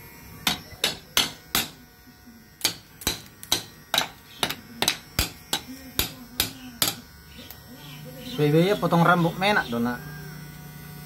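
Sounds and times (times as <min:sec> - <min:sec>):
electric hair clipper humming: 0:00.0 - 0:11.0.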